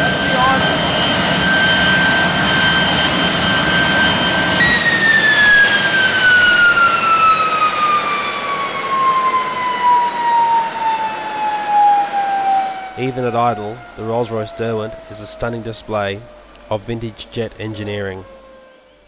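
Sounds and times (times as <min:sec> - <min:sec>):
jet engine rumble: 0:00.0 - 0:18.5
jet engine whine: 0:00.0 - 0:19.0.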